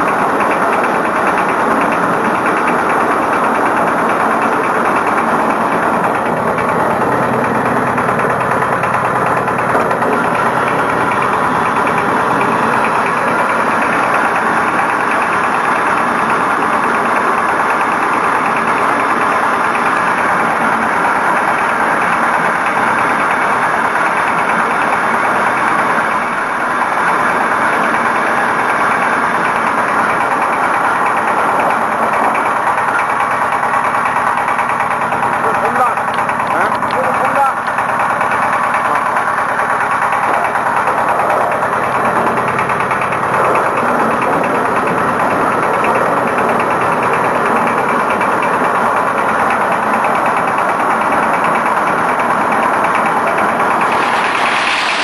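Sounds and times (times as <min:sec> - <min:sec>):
concrete mixer diesel engine chugging: 0:00.0 - 0:55.0.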